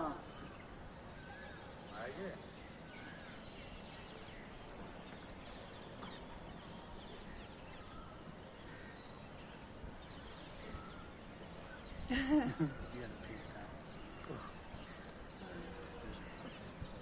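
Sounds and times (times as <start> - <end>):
faint bird chirps: 0.0 - 17.0
steady background hiss: 0.0 - 17.0.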